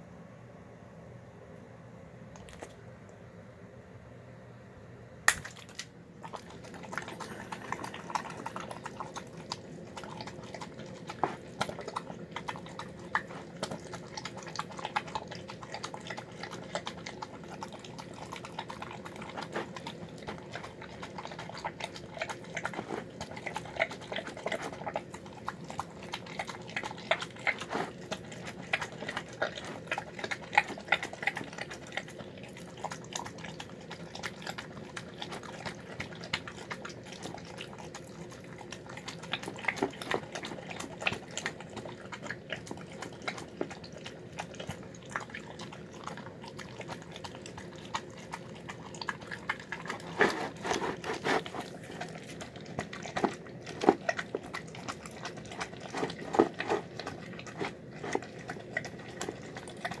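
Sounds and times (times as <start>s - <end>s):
dog chewing wet food: 5.3s - 60.0s.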